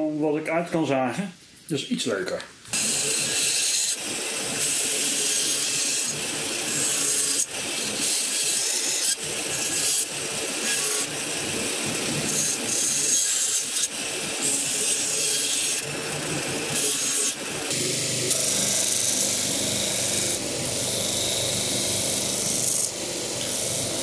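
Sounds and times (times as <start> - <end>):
band saw cutting plywood: 2.7 - 24.0.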